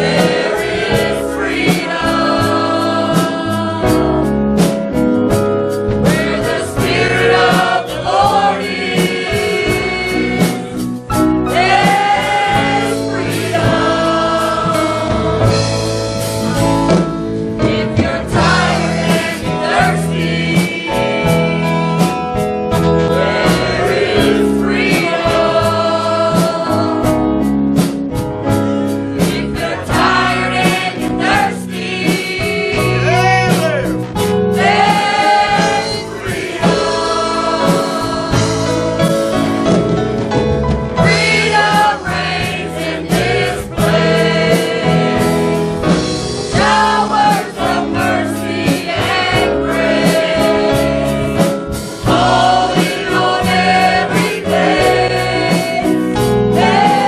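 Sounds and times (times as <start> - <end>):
group of voices singing: 0.0 - 5.0, 5.9 - 27.3, 29.0 - 39.8, 41.0 - 57.0
band with a steady beat: 0.0 - 57.0.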